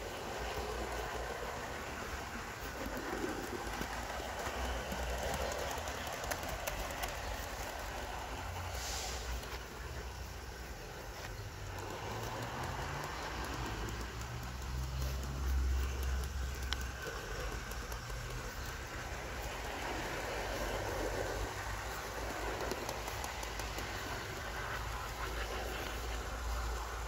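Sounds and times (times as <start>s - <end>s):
model train wheels rolling on rail: 0.0s - 27.0s.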